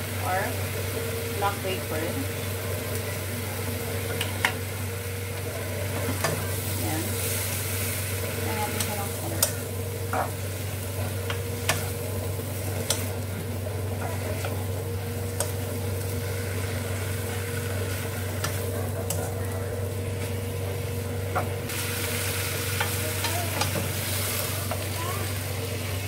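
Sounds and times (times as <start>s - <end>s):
vegetables sizzling in pan: 0.0s - 26.0s.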